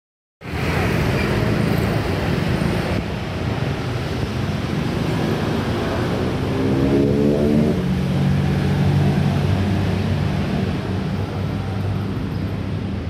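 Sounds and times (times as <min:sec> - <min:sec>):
road noise: 0:00.4 - 0:13.0.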